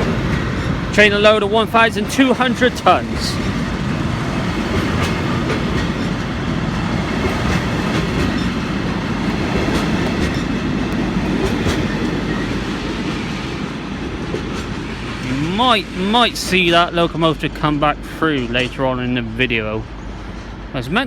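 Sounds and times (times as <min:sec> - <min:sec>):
wheels clicking over rail joints: 0:00.0 - 0:19.0
freight wagons rumbling: 0:00.0 - 0:21.0.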